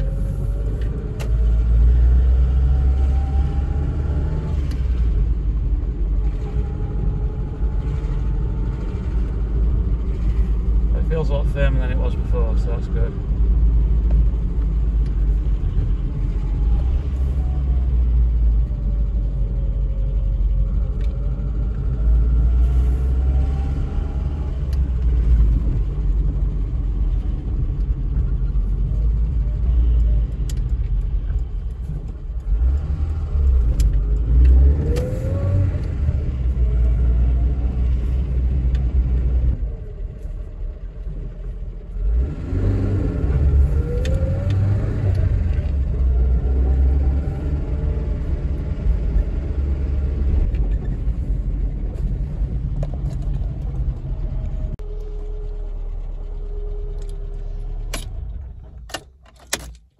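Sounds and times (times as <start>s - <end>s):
car engine revving while driving: 0.0s - 55.5s.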